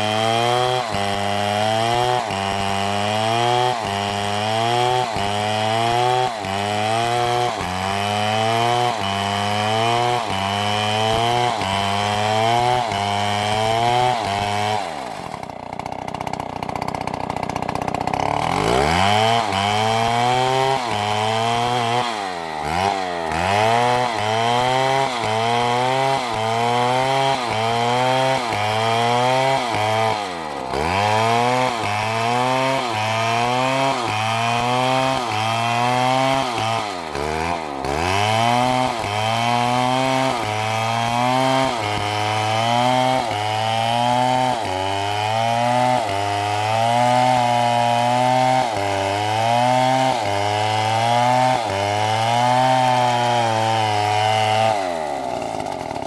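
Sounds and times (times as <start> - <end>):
chainsaw ripping a log: 0.0 - 56.0.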